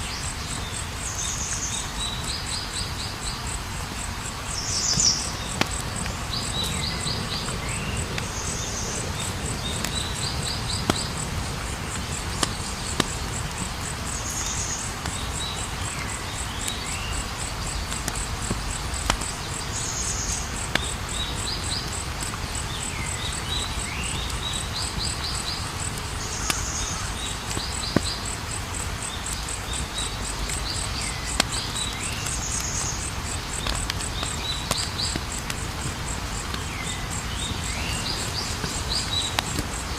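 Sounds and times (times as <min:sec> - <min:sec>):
campfire burning: 0:00.0 - 0:39.9
crickets chirping: 0:00.0 - 0:39.9
fire popping: 0:03.5 - 0:39.9.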